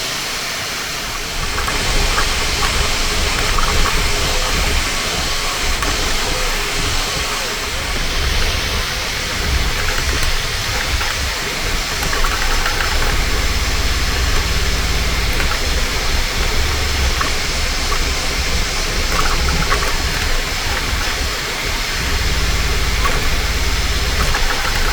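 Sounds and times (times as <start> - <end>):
fan hiss: 0.0 - 24.9
stepper motors humming: 0.0 - 24.9.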